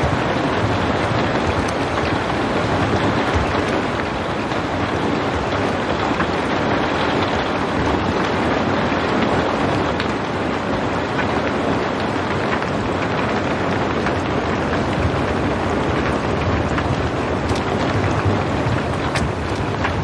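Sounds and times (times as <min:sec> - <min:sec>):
raindrop ticks: 0:00.0 - 0:08.4, 0:09.0 - 0:20.0
steady rain: 0:00.0 - 0:20.0.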